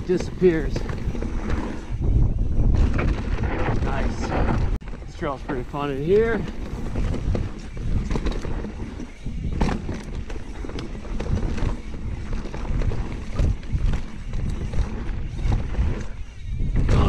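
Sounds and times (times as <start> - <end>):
bike rattling and clacking: 0.0 - 17.0
bike tyres rolling on dirt: 0.0 - 17.0
wind rumble on microphone: 0.0 - 17.0.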